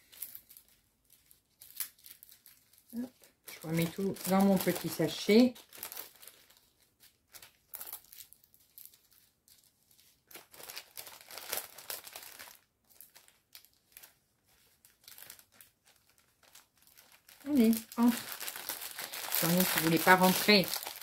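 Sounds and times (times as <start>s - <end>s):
plastic bags rustling and crinkling: 0.0s - 21.0s.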